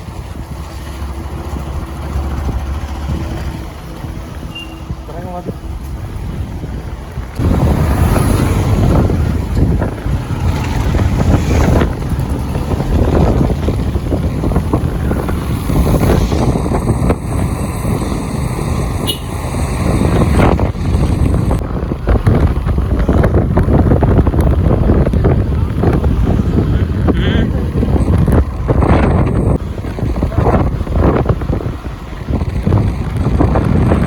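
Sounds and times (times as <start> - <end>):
motorbike engine: 0.0 - 34.0
road noise: 0.0 - 34.0
wind buffeting microphone: 0.0 - 34.0.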